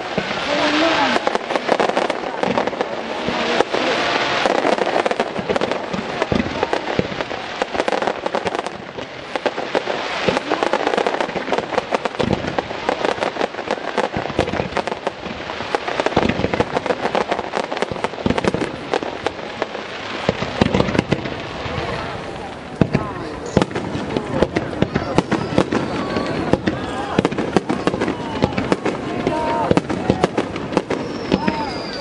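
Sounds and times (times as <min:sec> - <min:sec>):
deep firework booms: 0:00.0 - 0:32.0
fireworks bursting: 0:00.0 - 0:32.0
fireworks crackling: 0:00.0 - 0:32.0.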